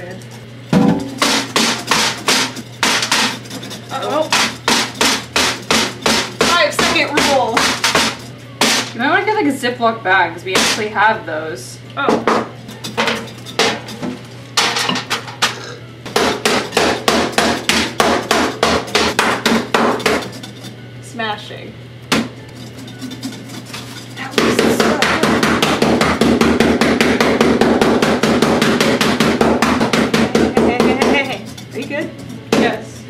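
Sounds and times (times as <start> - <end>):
mallet pounding candy on metal tray: 0.7 - 9.0, 10.5 - 11.0, 12.1 - 15.4, 16.0 - 20.6, 22.1 - 33.0.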